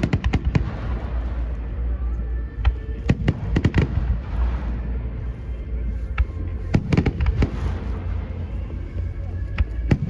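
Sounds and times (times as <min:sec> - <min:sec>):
fireworks bangs: 0:00.0 - 0:01.9, 0:02.5 - 0:10.0
low rumble: 0:00.0 - 0:10.0.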